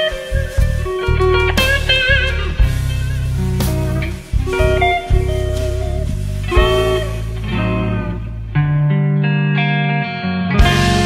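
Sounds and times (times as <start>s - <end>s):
steady bass line: 0.0s - 9.5s, 10.6s - 11.0s
guitar with bent notes: 0.0s - 11.0s.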